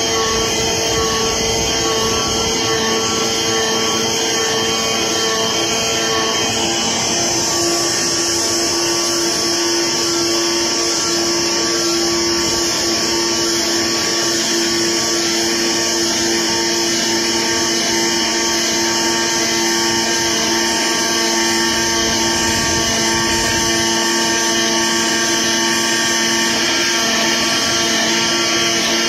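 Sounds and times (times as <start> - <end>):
cutter plotter mechanical hum: 0.0 - 29.0
high whine: 0.0 - 29.0.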